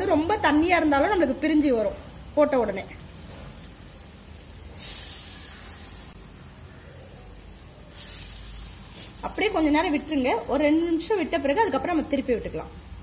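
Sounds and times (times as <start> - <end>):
deep-frying sizzle in oil: 0.0 - 13.0.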